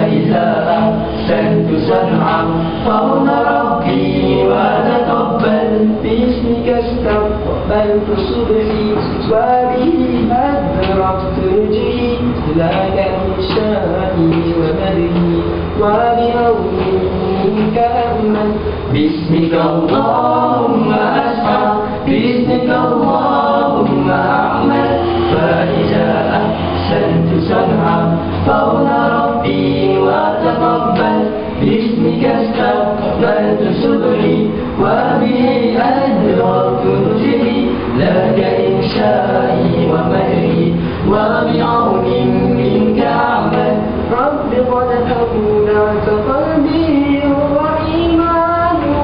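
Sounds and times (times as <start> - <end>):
male a cappella group singing: 0.0 - 49.0.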